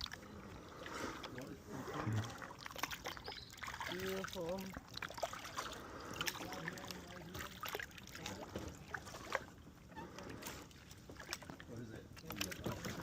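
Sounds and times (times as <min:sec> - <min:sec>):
kayak paddle strokes: 0:00.0 - 0:13.0
water dripping off paddle: 0:00.0 - 0:13.0.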